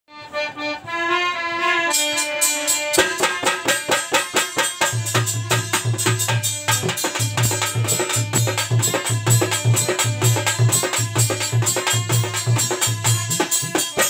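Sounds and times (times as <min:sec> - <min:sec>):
harmonium playing: 0:00.1 - 0:14.0
hand drum strokes: 0:01.9 - 0:14.0.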